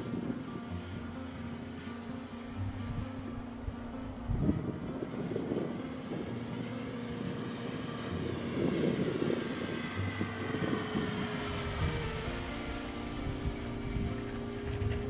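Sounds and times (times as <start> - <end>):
model aircraft motor whine: 0.0 - 15.0
wind gusts on microphone: 0.0 - 15.0.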